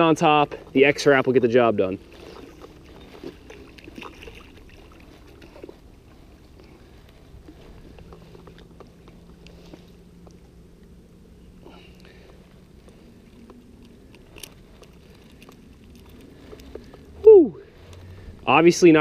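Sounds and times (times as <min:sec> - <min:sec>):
handling clicks and rustles: 0:00.0 - 0:19.0
low background rumble: 0:00.0 - 0:19.0.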